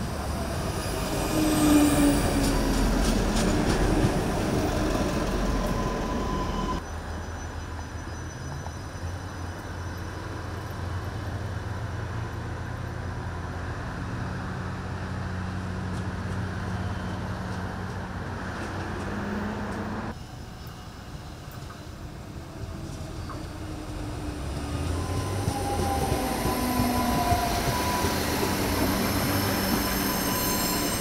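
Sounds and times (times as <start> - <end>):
railcar wheels rumbling on rails: 0.0 - 31.0.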